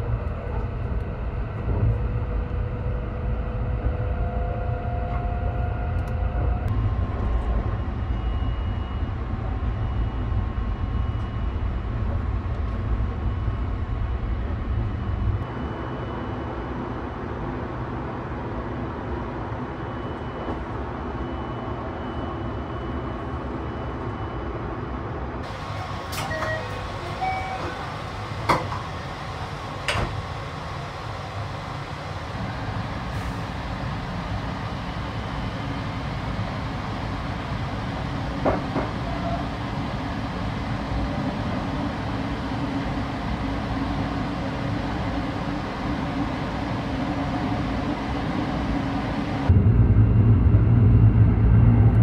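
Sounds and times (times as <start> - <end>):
train rumble inside carriage: 0.0 - 52.0.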